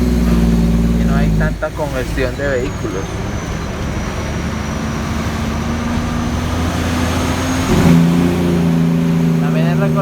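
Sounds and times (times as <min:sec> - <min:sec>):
truck diesel engine revving: 0:00.0 - 0:10.0.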